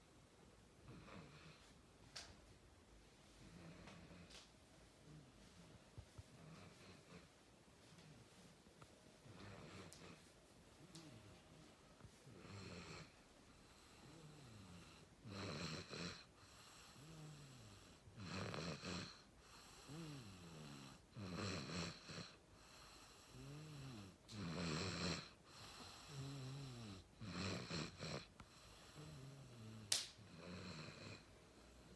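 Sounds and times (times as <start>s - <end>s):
soft snoring: 0.8s - 1.8s, 3.3s - 31.9s.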